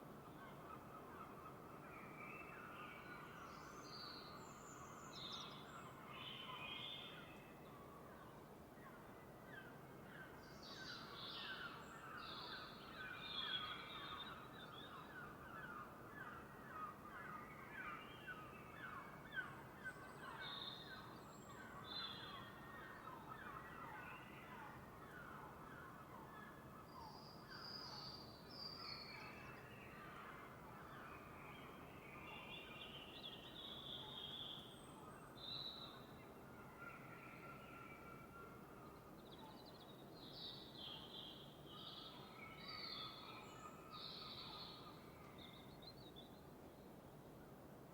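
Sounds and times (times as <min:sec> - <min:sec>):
low steady background noise: 0:00.0 - 0:47.9.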